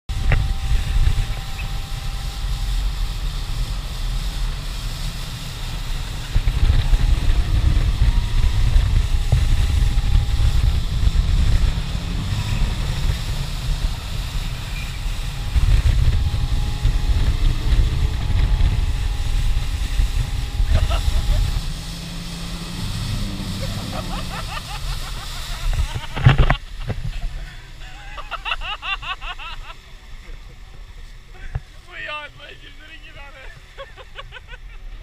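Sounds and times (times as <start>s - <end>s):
wind rumble on microphone: 0.1s - 32.6s
outboard motor running: 0.1s - 32.7s
water rushing: 0.1s - 35.0s.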